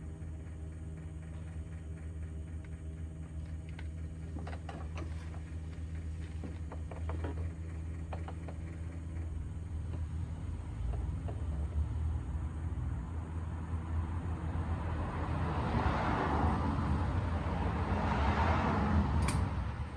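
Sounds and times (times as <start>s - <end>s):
low mechanical hum: 0.0s - 19.9s.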